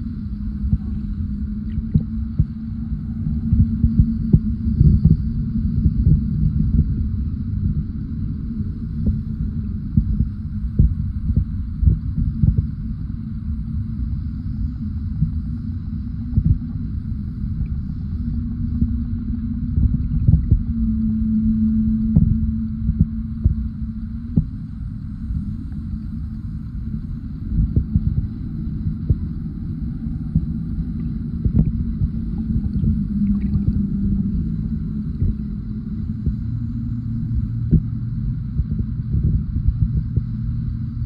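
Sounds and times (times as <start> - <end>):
underwater rumble and hum: 0.0 - 41.0.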